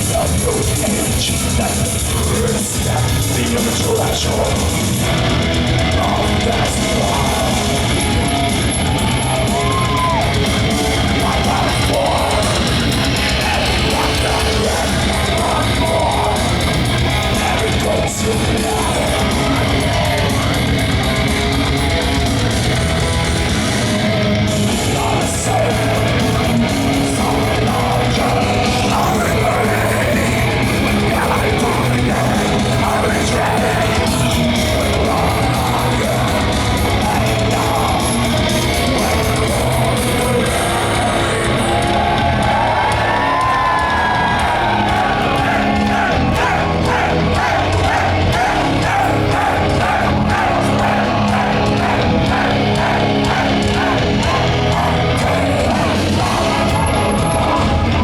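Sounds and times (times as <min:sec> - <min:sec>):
distorted electric guitars: 0:00.0 - 0:58.0
drums: 0:00.0 - 0:58.0
shouted vocals: 0:00.0 - 0:58.0.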